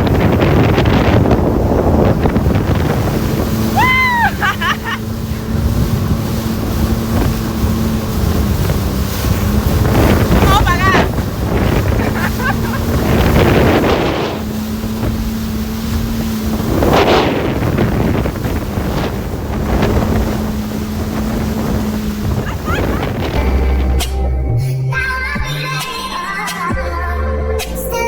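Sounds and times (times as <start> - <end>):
water splashing: 0.0 - 24.6
wind buffeting microphone: 0.0 - 25.5
jet ski engine droning: 0.0 - 28.0.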